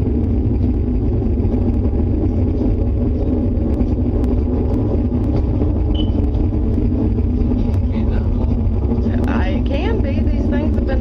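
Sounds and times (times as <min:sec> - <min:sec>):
deep rumbling storm roar: 0:00.0 - 0:11.0.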